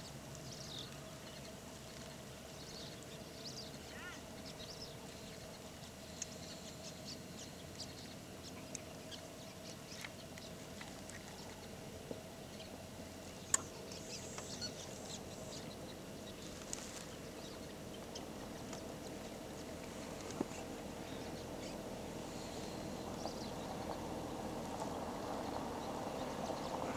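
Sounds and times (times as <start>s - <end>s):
faint steady hum: 0.0s - 26.9s
small birds chirping: 0.0s - 26.9s.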